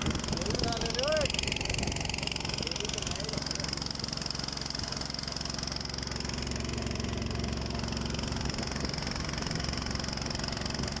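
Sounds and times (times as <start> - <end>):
engine running with low pulsing: 0.0 - 11.0.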